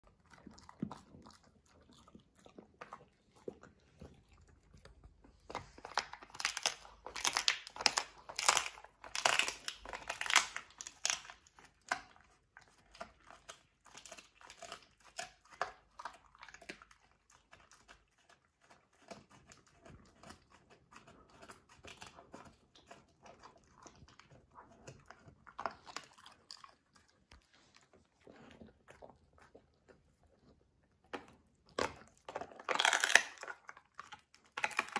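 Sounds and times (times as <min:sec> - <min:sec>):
dog chewing a treat: 0:00.0 - 0:34.9.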